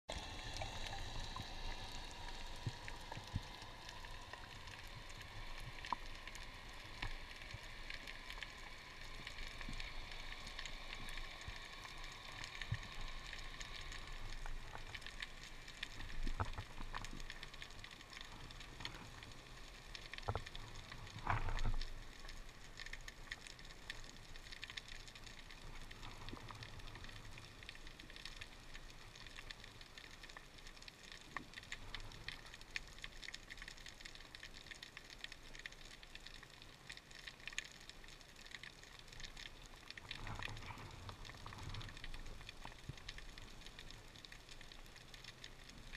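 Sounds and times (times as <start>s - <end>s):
underwater crackle of fine clicks: 0.1s - 45.9s.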